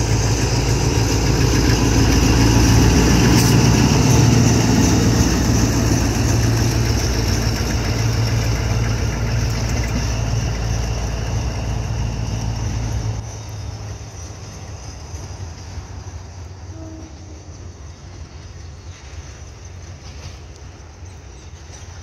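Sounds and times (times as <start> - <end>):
locomotive engine passing: 0.0 - 22.0.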